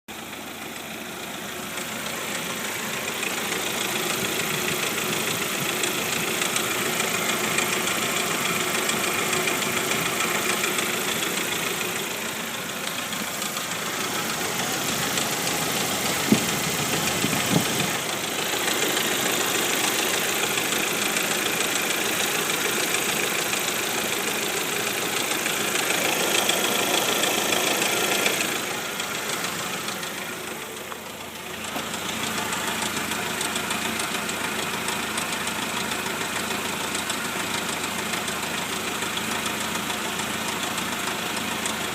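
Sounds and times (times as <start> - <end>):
car engine running with a knock: 0.2 - 41.9.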